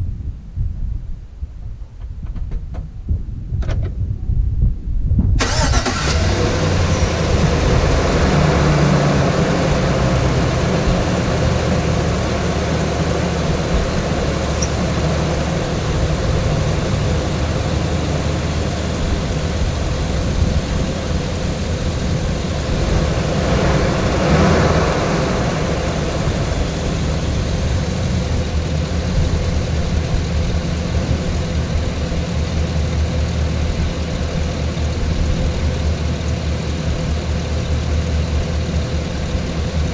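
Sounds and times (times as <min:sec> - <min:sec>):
car engine starting and idling: 0:05.4 - 0:39.9.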